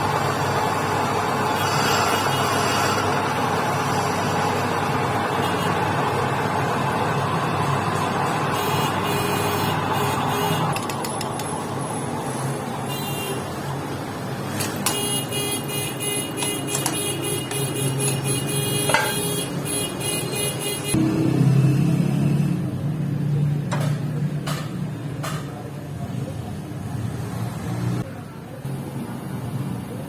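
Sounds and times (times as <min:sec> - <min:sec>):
workshop machine running: 0:00.0 - 0:27.7.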